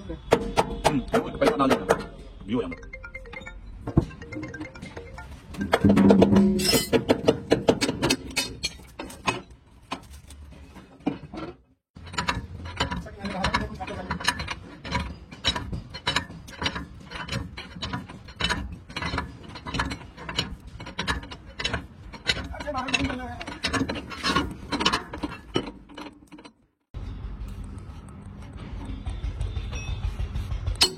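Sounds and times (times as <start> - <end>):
metallic clicking and clanking: 0.3 - 2.4, 3.2 - 30.9.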